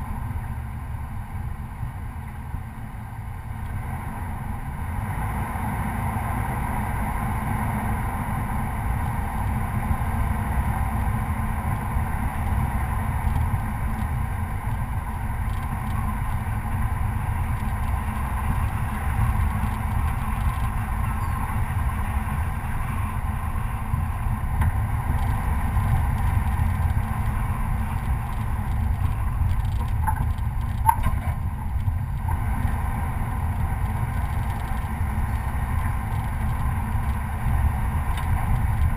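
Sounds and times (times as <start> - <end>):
pickup engine rumble: 0.0 - 38.9.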